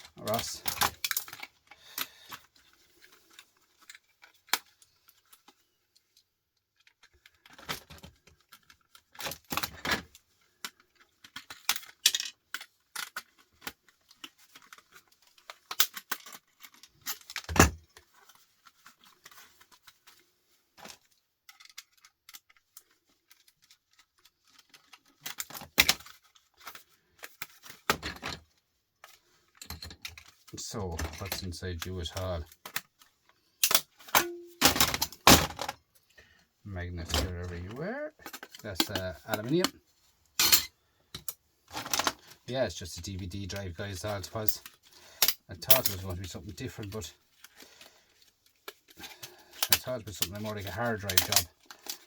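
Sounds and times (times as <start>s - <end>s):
small parts clicking and clattering: 0.0s - 52.0s.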